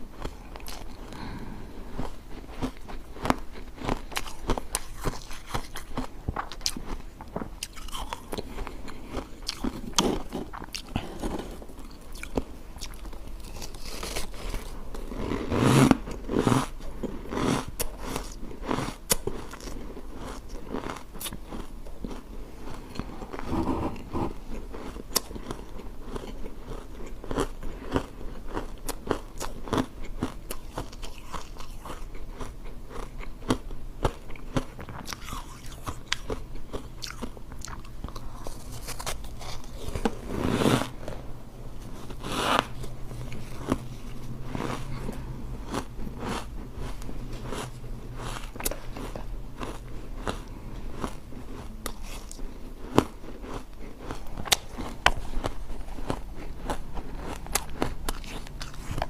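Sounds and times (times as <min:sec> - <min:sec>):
ice being chewed: 0:00.1 - 0:59.0.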